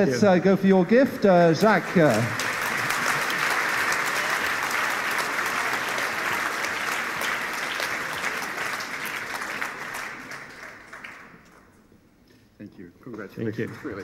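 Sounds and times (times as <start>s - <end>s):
audience applauding: 0.0s - 11.8s, 13.1s - 14.0s.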